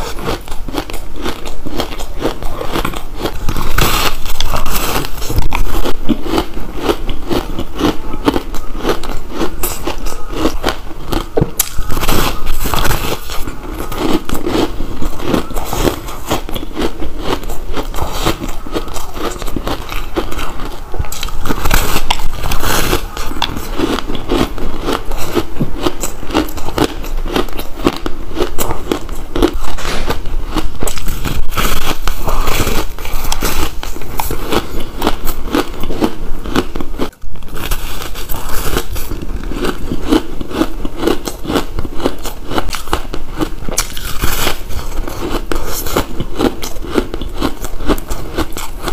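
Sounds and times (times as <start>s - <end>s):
ice being bitten and chewed: 0.0s - 48.9s.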